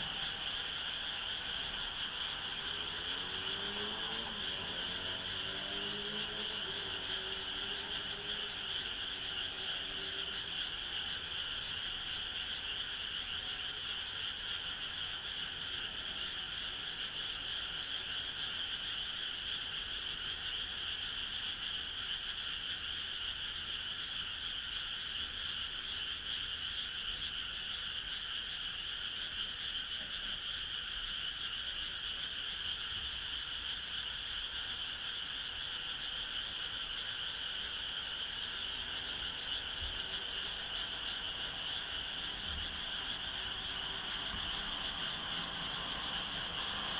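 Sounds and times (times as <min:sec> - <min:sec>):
frog chorus: 0:00.0 - 0:46.9.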